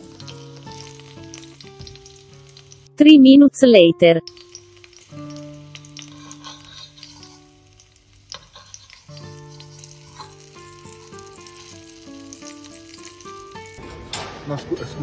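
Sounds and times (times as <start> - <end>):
food sizzling in oil: 0.0 - 3.0, 4.2 - 13.8
soft background music: 0.0 - 15.0.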